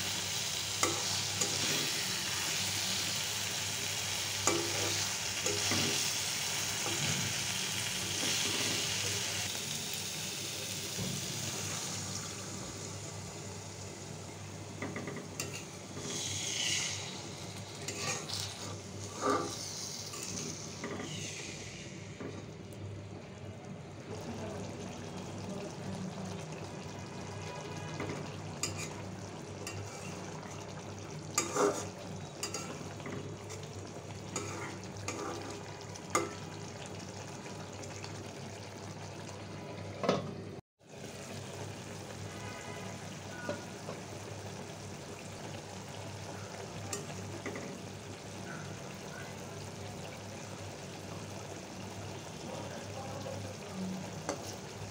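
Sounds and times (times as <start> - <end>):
curry simmering and sizzling: 0.0 - 54.9.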